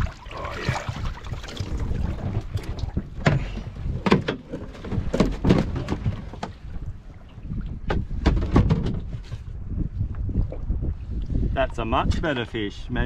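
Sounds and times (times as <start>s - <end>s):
water noise: 0.0s - 12.7s
wind: 0.0s - 13.0s.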